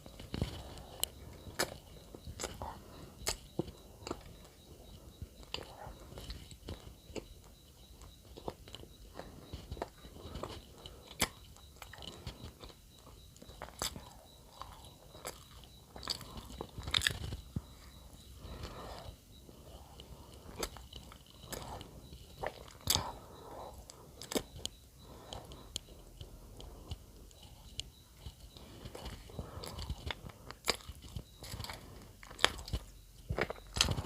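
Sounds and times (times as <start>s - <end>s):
person chewing bread: 0.0s - 34.0s.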